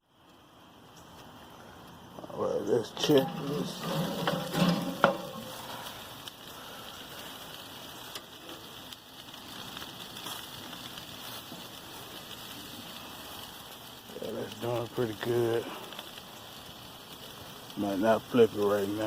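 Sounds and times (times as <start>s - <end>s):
chicken sizzling on a grill: 0.0s - 19.0s.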